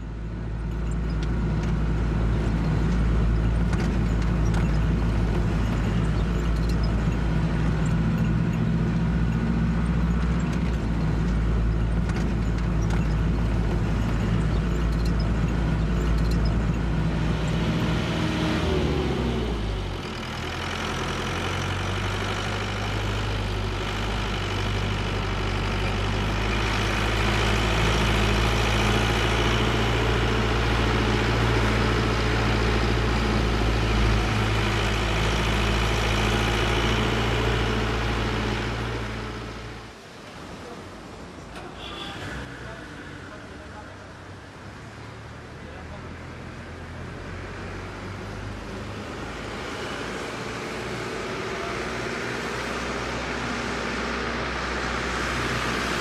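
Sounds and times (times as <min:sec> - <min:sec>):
minibus engine running: 0:00.0 - 0:56.0.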